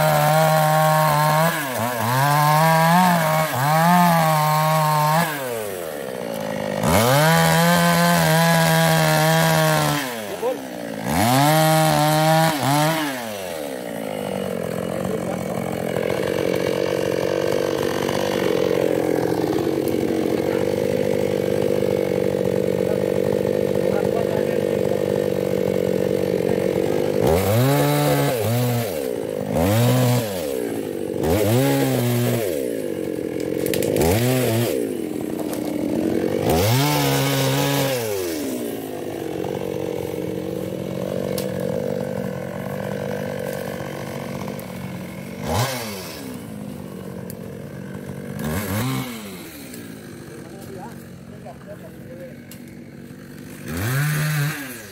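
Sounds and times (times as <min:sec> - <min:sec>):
chainsaw revving and idling: 0:00.0 - 0:54.9.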